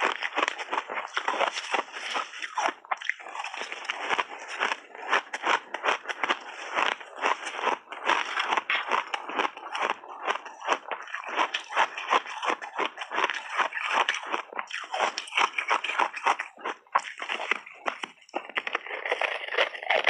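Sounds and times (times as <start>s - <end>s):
frozen ice balls being crunched: 0.0s - 20.0s.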